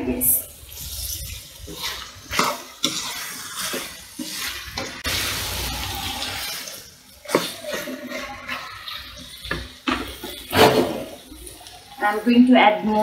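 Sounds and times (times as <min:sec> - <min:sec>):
meat sizzling in a pan: 0:00.1 - 0:13.0
spatula scraping a pan: 0:00.6 - 0:13.0.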